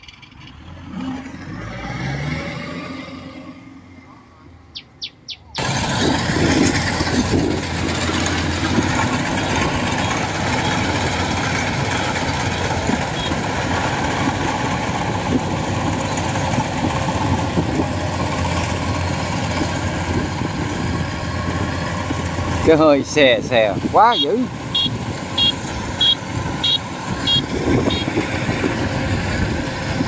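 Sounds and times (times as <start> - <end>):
combine harvester drone: 5.5 - 30.0.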